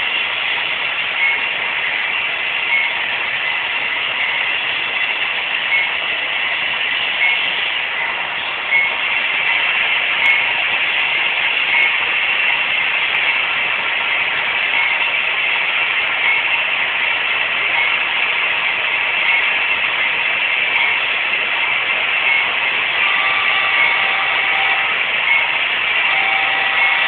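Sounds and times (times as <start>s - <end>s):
model train rolling and humming: 0.0s - 27.0s.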